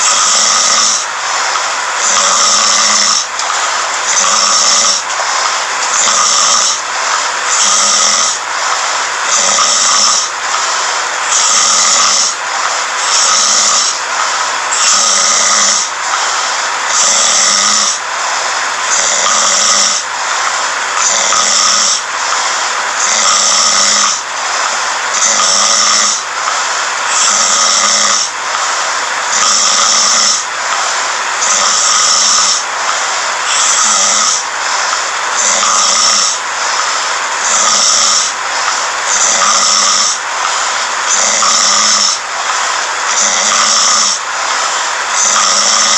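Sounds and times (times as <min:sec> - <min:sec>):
person snoring: 0:00.0 - 0:45.9.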